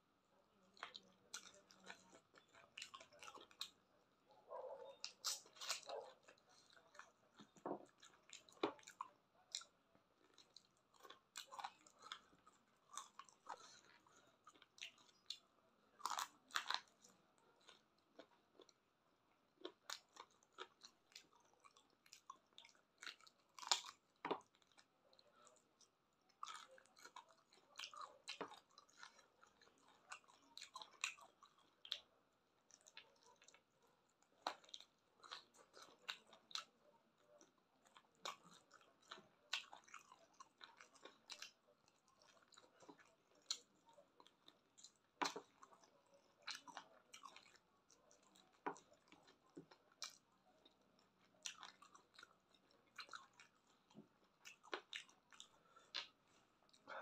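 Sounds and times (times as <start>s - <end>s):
person chewing: 0.8s - 3.9s, 4.9s - 18.8s, 19.6s - 32.1s, 32.7s - 57.0s
food crunching: 0.8s - 4.0s, 4.9s - 18.8s, 19.6s - 32.1s, 32.7s - 57.0s.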